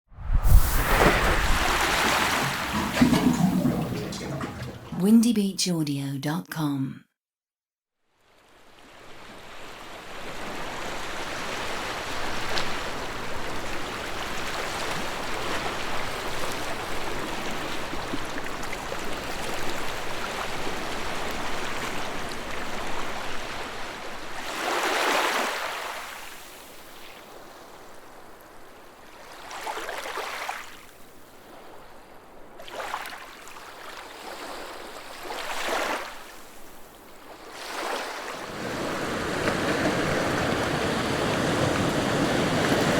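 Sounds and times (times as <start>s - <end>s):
sea waves on a coastline: 0.2s - 5.0s, 8.2s - 42.9s.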